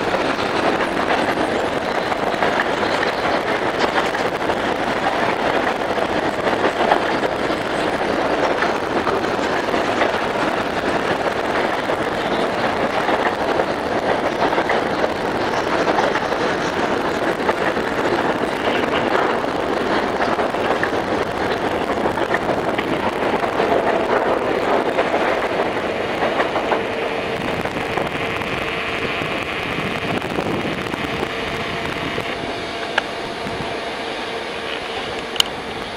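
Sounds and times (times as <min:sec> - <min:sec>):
clicks of train wheels: 0:00.0 - 0:35.9
freight train wheels on rails: 0:00.0 - 0:35.9.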